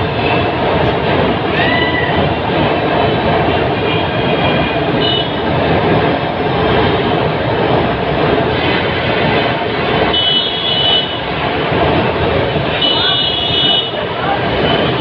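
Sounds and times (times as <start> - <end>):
electric train rumbling on track: 0.0 - 15.0.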